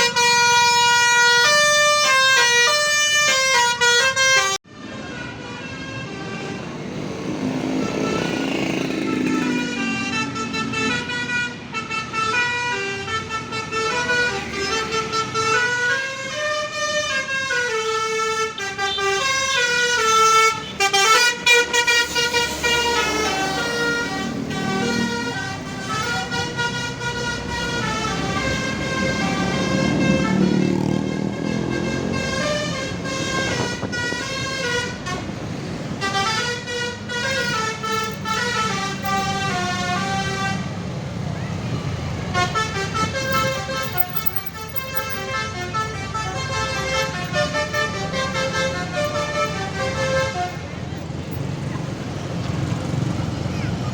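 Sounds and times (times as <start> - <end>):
musical multi-tone air horns: 0.0 - 6.8, 7.6 - 40.9, 42.2 - 50.8
bus engine rumbling: 0.0 - 53.9.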